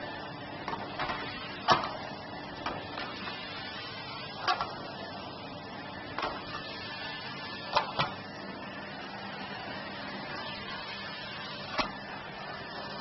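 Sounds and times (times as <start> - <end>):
vacuum cleaner on carpet: 0.0 - 13.0.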